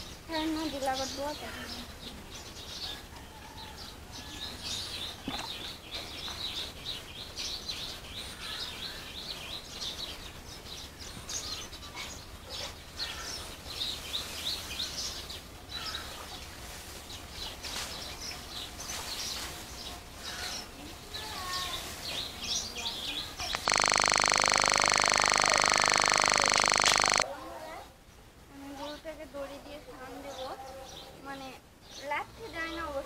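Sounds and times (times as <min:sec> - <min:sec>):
small birds chirping: 0:00.0 - 0:03.1, 0:03.7 - 0:27.2.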